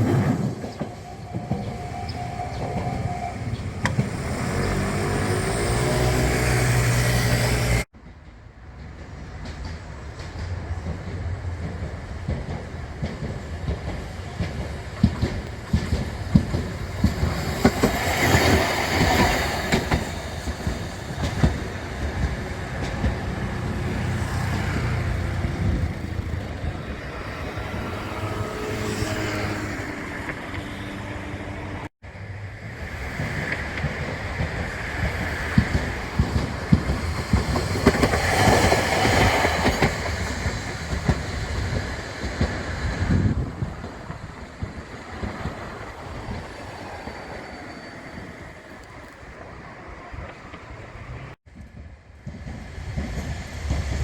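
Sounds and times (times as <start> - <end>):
train wheels clattering over joints: 0.0 - 30.8, 32.9 - 49.2.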